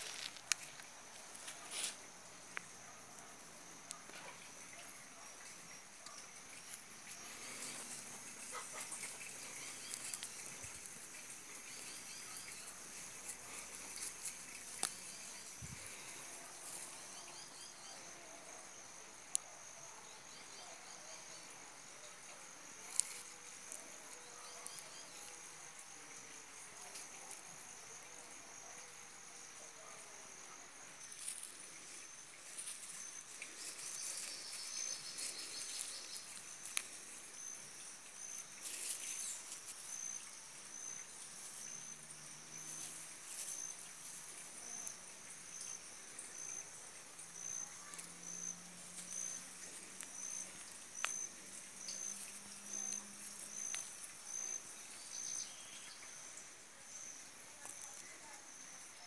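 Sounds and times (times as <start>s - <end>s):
insects trilling and chirping: 0.0s - 59.0s.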